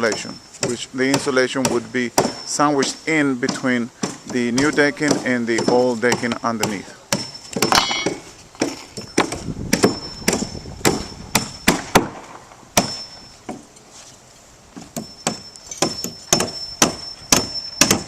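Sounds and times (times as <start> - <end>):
hammer blows on wood: 0.0 - 13.7, 14.8 - 18.0.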